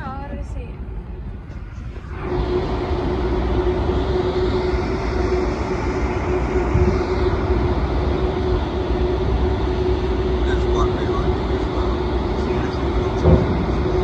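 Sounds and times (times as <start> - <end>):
low rumble: 0.0 - 14.0
mechanical hum: 0.0 - 14.0
loud rushing noise: 1.5 - 14.0.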